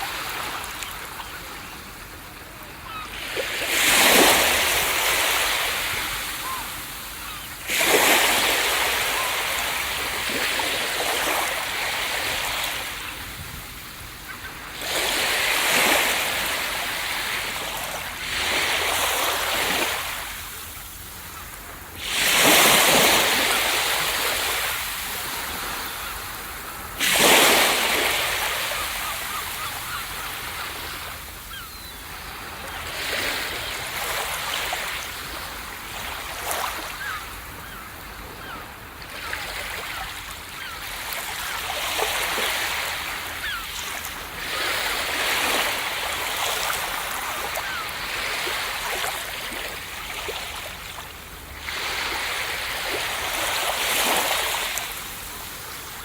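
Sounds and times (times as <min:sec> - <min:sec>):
ocean waves crashing on beach: 0:00.0 - 0:56.0.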